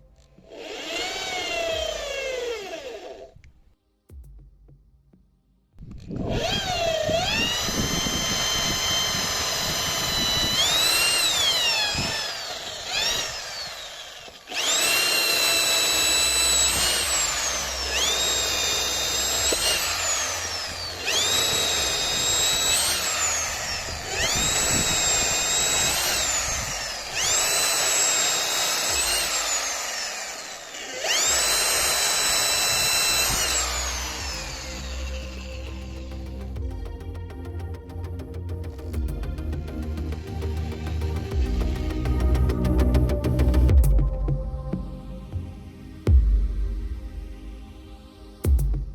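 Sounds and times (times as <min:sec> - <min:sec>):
electric drill motor whine: 0:00.0 - 0:03.5, 0:05.8 - 0:37.0, 0:38.7 - 0:43.7.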